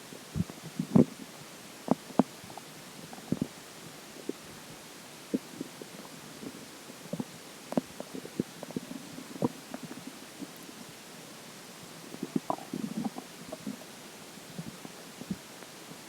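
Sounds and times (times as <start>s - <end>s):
stomach gurgling: 0.4s - 4.6s, 5.2s - 16.0s.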